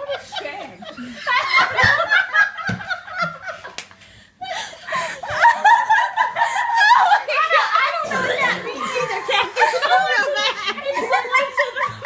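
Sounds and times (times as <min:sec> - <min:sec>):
group of people laughing: 0:00.0 - 0:03.8, 0:04.4 - 0:12.0.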